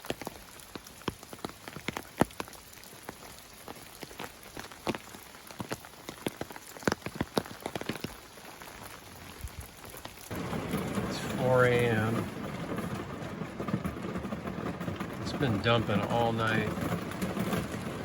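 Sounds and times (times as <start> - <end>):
faint rain hiss: 0.0 - 18.0
raindrops striking hard surface: 0.0 - 18.0.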